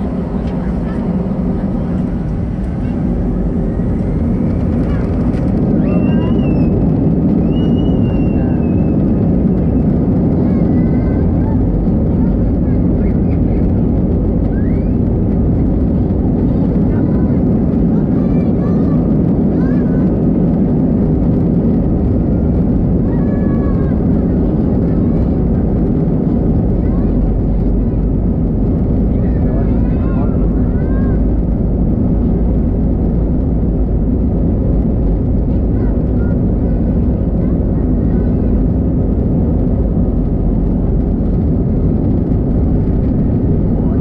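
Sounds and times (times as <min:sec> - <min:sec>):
jet engine whine in cabin: 0:00.0 - 0:44.0.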